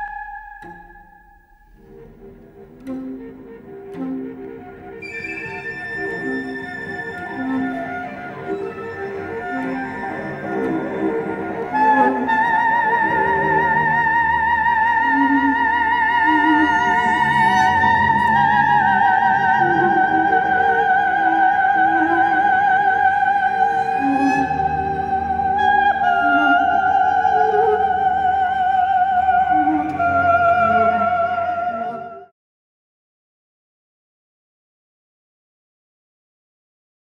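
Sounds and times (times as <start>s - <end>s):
slow film score melody: 0.0s - 32.3s.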